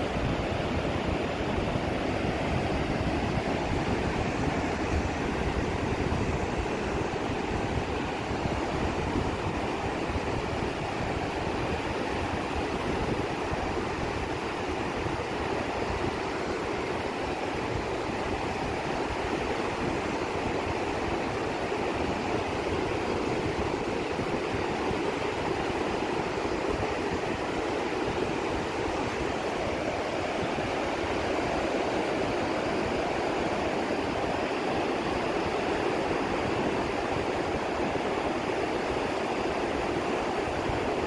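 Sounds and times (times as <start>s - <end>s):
ocean surf breaking: 0.0s - 40.8s.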